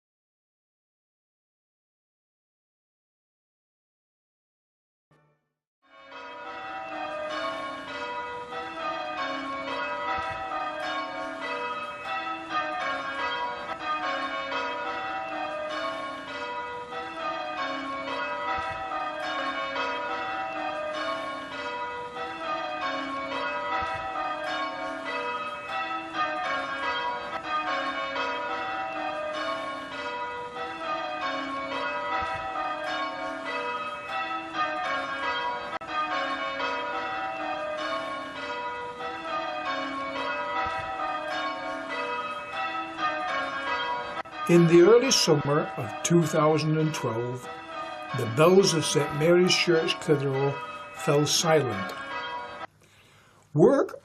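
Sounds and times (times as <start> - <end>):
church bells change ringing: 5.9 - 52.7.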